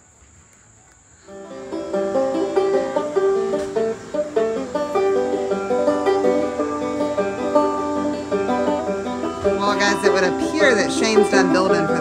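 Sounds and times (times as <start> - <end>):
banjo picking: 1.3 - 12.0.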